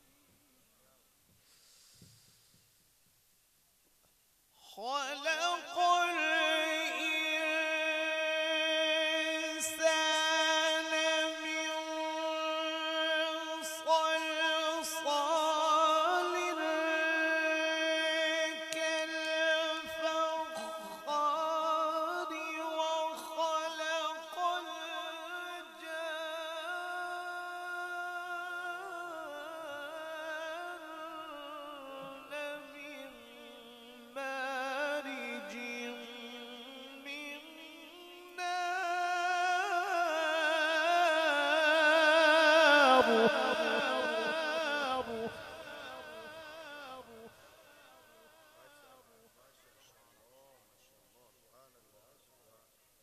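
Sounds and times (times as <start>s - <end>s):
man reciting melodically: 4.6s - 53.0s.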